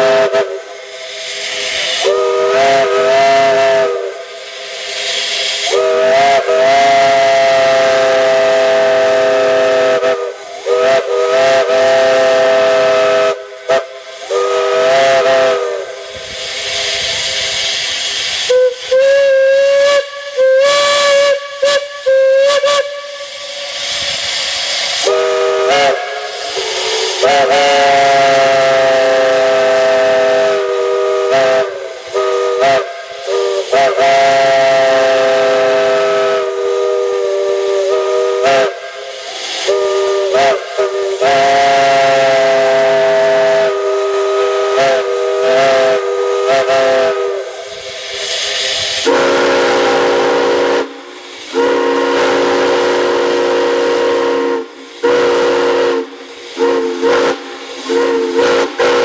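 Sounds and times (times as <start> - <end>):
steam hissing: 0.0 - 59.0
steam whistle toots: 0.0 - 59.0.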